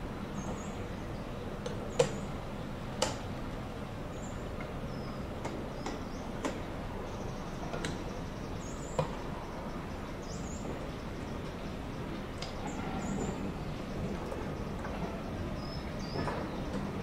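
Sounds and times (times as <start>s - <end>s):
railway wheels clicking and knocking: 0.0s - 17.0s.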